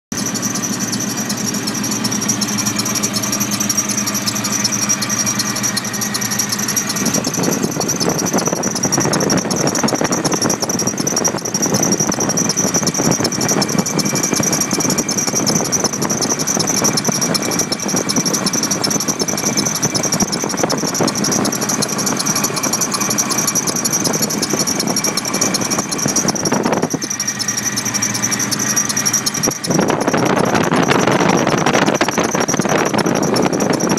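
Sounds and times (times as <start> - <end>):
engine running: 0.1 - 33.9
belt squealing: 0.2 - 33.9.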